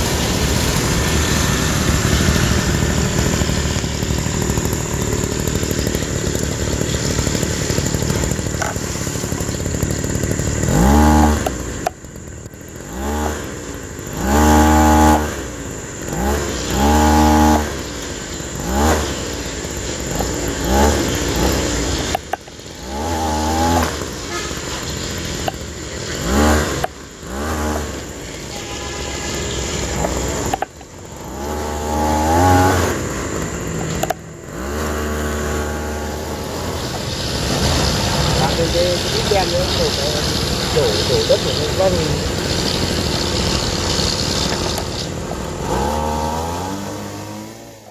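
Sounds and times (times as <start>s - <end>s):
model truck motor revving: 0.0s - 47.9s
steady mechanical running noise: 0.0s - 47.9s.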